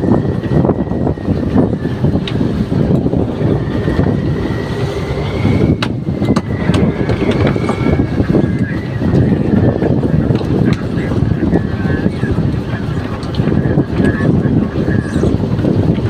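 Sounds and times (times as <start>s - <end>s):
boat engine running loudly: 0.0s - 16.0s
high wavering whine: 0.0s - 16.0s.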